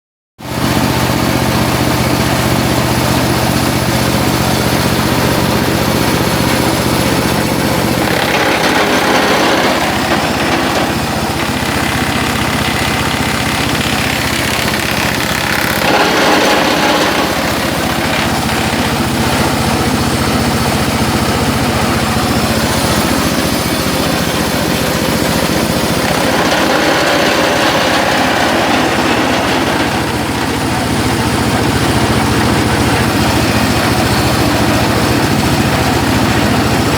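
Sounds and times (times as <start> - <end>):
diesel-driven chopper machine running: 0.4 - 36.9.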